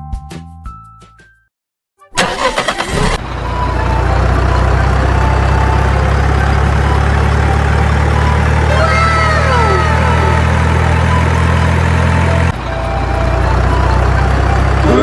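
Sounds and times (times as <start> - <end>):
truck engine cranking and idling: 2.2 - 15.0.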